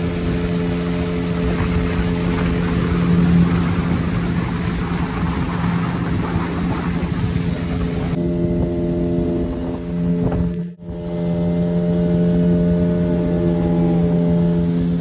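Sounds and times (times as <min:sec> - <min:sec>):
speedboat engine hum: 0:00.0 - 0:15.0
wind and water rushing: 0:00.0 - 0:15.0.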